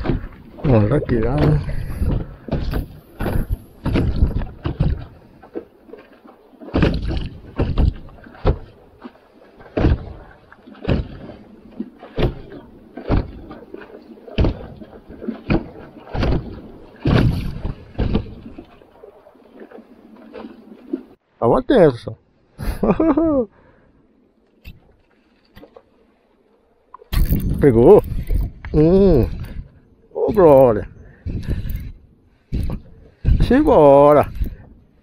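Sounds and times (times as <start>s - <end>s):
kayak paddle splashing: 0.0s - 21.3s, 22.3s - 35.0s.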